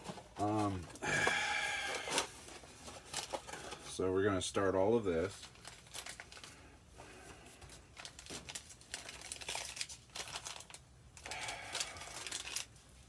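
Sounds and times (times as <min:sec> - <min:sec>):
paper packets crinkling: 0:00.0 - 0:04.0, 0:04.7 - 0:13.0.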